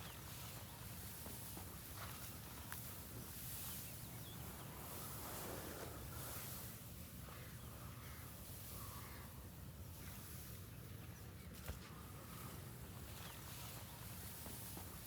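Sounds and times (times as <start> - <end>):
faint open-air ambience: 0.0 - 15.0.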